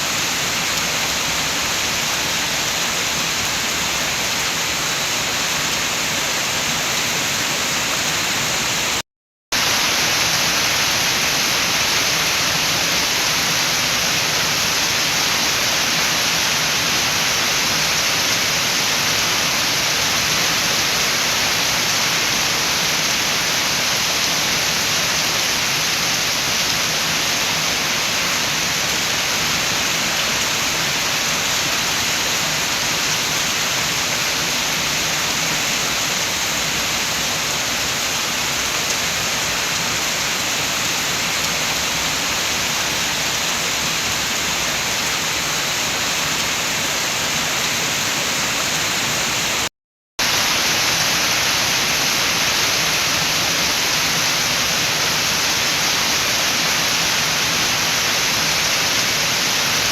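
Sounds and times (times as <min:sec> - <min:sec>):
steady rain with wind: 0:00.0 - 0:59.9.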